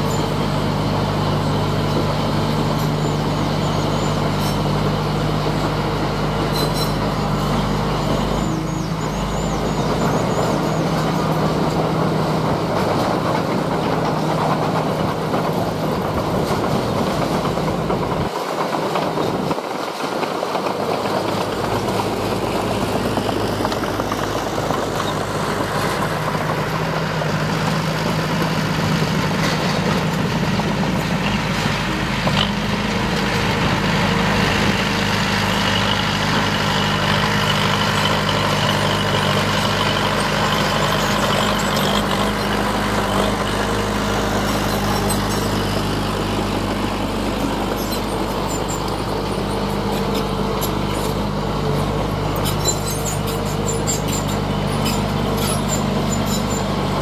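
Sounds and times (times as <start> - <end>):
heavy diesel engines rumbling: 0.0 - 57.0.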